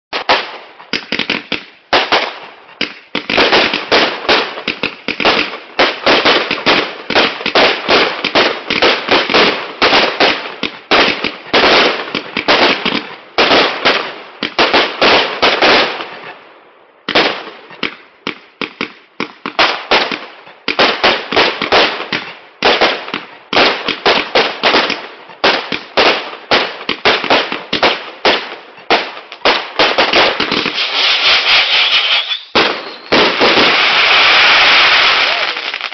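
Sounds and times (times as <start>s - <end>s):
firework barrage of bangs: 0.1s - 16.4s, 17.0s - 35.9s.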